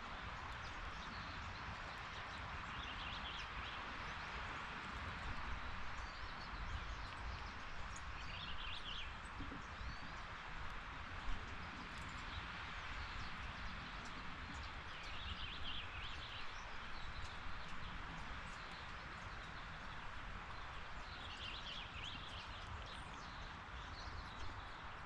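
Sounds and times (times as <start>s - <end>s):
small birds chirping: 0.4s - 10.4s, 11.1s - 25.0s.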